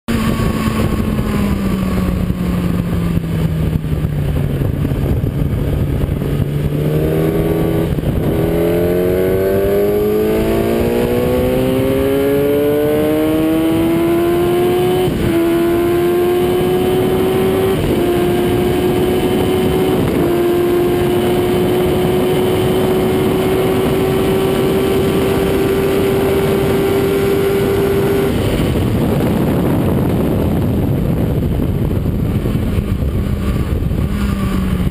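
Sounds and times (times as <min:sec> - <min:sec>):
motorcycle engine accelerating: 0:00.1 - 0:34.9
wind noise: 0:00.1 - 0:34.9.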